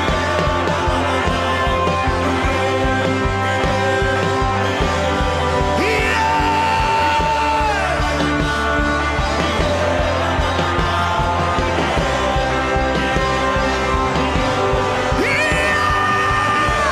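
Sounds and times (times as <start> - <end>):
steady drum beat: 0.0 - 16.9.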